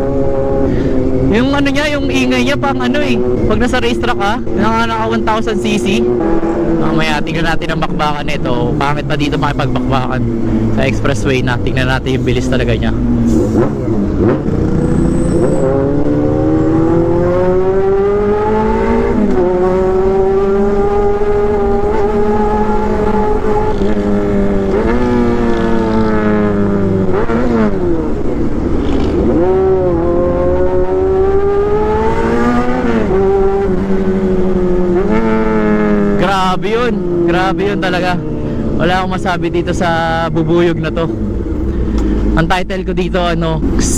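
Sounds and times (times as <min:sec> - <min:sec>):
motorcycle accelerating: 0:00.0 - 0:43.9.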